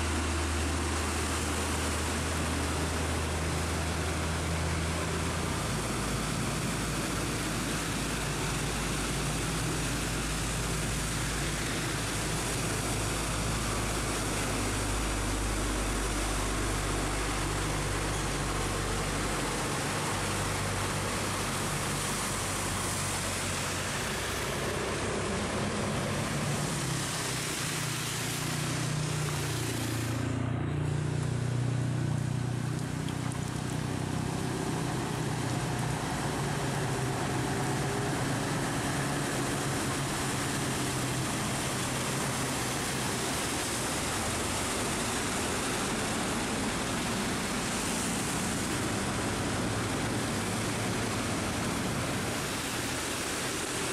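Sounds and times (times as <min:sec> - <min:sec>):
heavy rain: 0:00.0 - 0:53.9
truck engines on a flooded road: 0:00.0 - 0:53.9.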